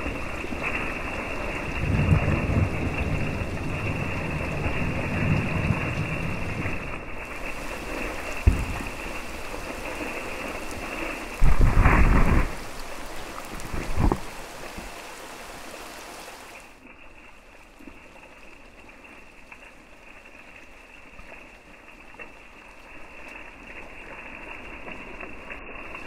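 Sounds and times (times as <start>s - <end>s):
rain on foliage: 0.0s - 26.0s.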